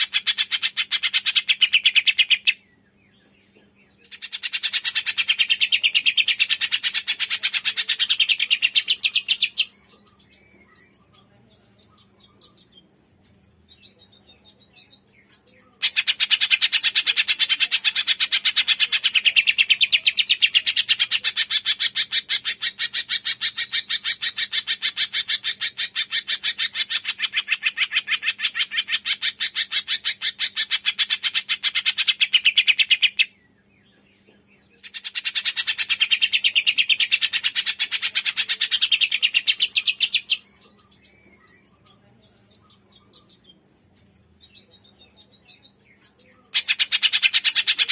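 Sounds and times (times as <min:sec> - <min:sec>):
faint bird chirps: 0:00.0 - 0:47.9.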